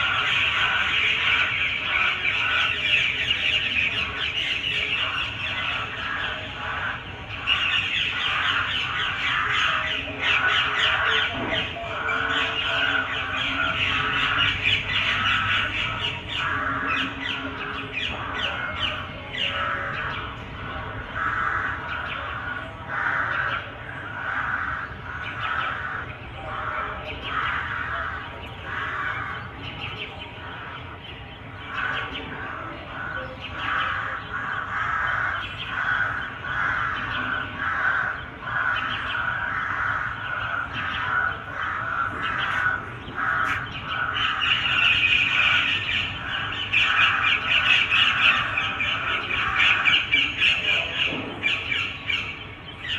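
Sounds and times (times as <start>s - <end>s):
crows cawing: 0.0s - 52.9s.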